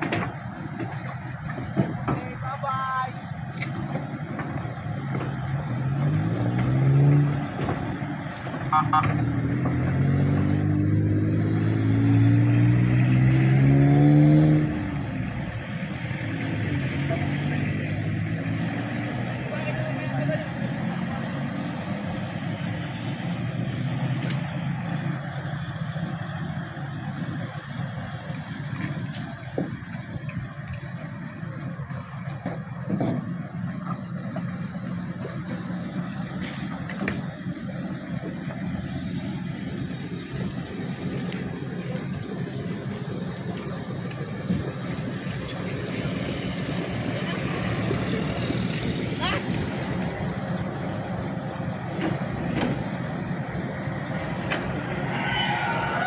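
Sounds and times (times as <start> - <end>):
excavator diesel engine revving: 3.4 - 30.2, 33.1 - 55.1.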